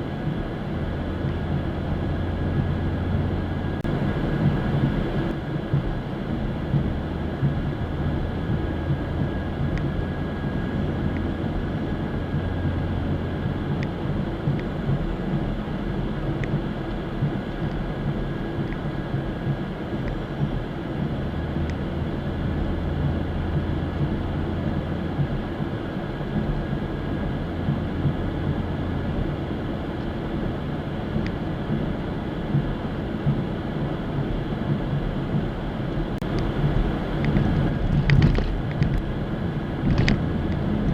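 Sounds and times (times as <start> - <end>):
car engine drone: 0.0 - 40.9
road noise: 0.0 - 40.9.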